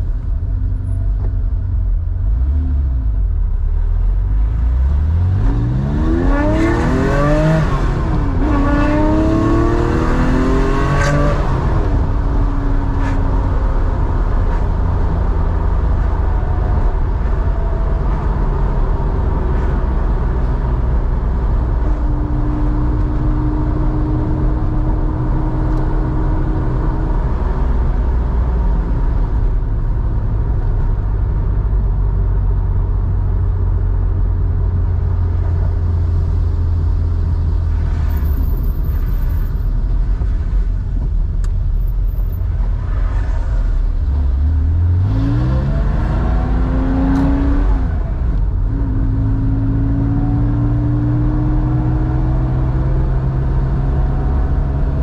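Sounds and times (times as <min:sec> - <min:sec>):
car engine deep rumble: 0:00.0 - 0:55.0.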